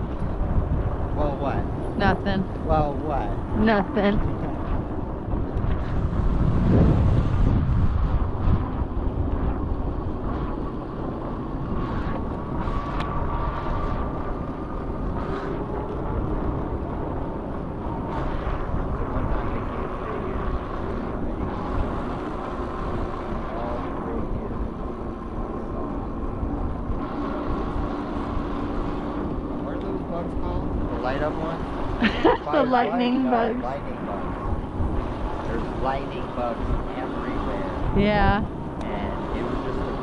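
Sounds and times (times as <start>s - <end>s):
faint steady whine: 0.0s - 40.0s
wind on microphone: 0.0s - 40.0s.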